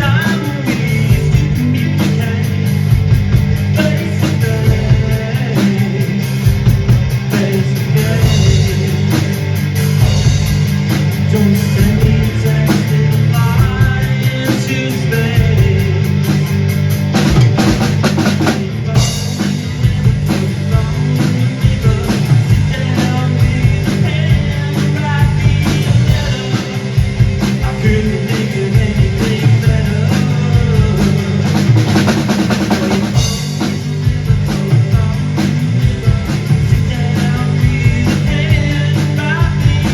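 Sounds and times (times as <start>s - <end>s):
drum kit beat: 0.0s - 39.9s
rock guitar: 0.0s - 39.9s.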